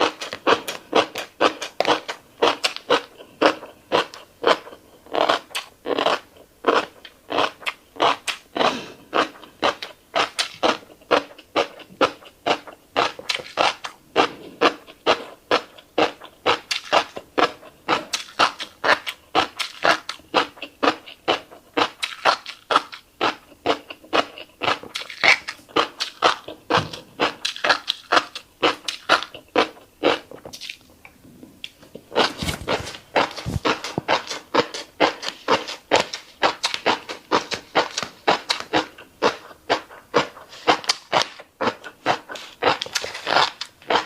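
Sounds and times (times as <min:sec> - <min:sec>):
chewing with wet pops and crunches: 0:00.0 - 0:44.0.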